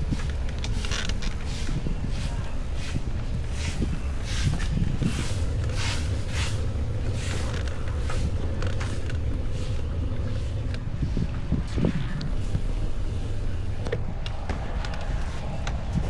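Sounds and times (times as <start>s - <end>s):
tyres hissing on road: 0.0s - 16.0s
wind rumbling on microphone: 0.0s - 16.0s.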